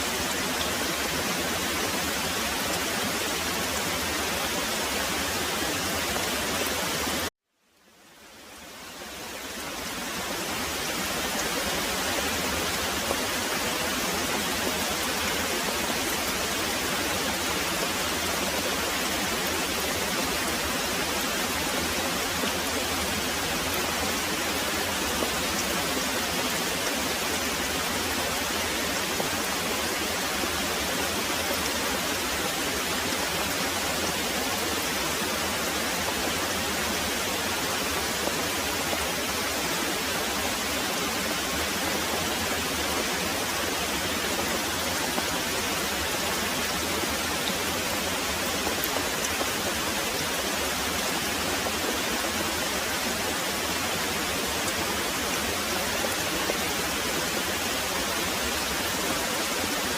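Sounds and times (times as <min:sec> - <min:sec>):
heavy rain pouring: 0:00.0 - 0:07.3, 0:08.1 - 0:59.9.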